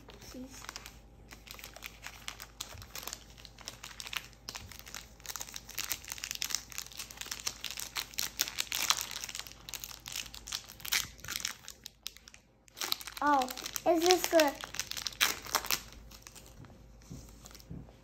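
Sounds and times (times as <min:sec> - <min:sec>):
foil wrappers crinkling and tearing: 0:00.1 - 0:16.6.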